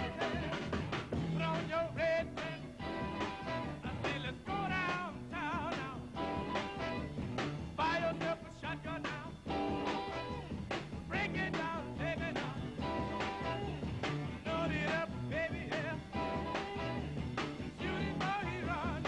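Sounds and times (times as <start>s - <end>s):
rhythm and blues band playing live: 0.0s - 19.0s.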